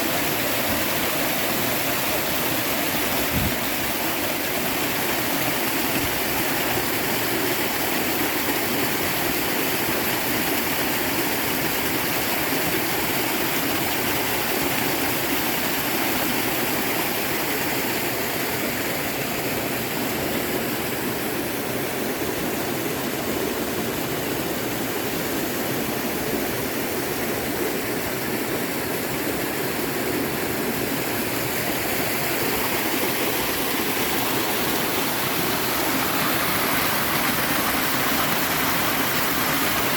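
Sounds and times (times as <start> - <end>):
river and waterfall rushing: 0.0 - 39.9.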